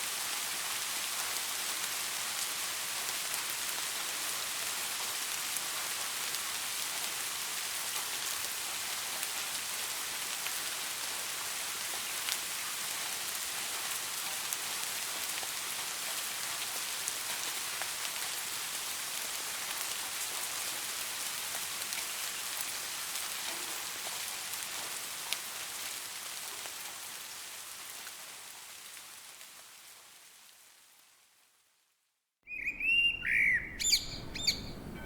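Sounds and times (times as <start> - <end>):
rain falling: 0.0 - 31.8.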